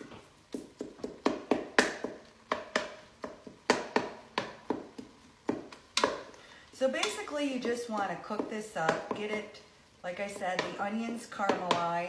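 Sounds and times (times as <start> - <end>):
wooden spoon knocking in a pot: 0.6 - 6.3, 7.0 - 9.5, 10.3 - 12.0.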